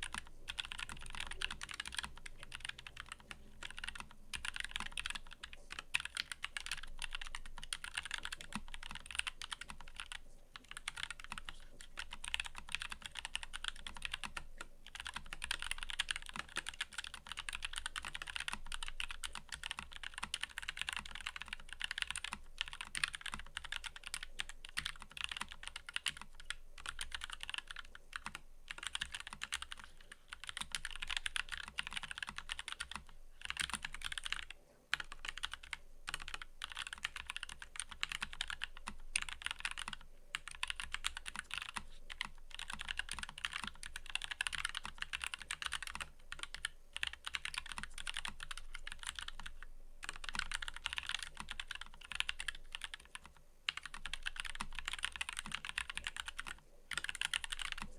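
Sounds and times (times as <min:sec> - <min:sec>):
typing on mechanical keyboard: 0:00.0 - 0:57.9.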